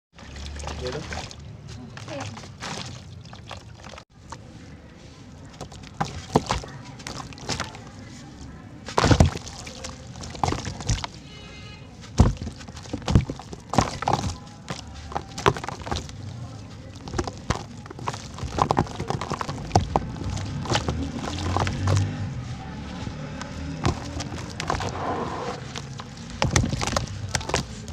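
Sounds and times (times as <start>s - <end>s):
dirt cylinders cracking in water: 0.2s - 4.4s, 5.4s - 11.3s, 12.1s - 22.4s, 23.1s - 27.9s
soft crumbling: 0.8s - 27.9s.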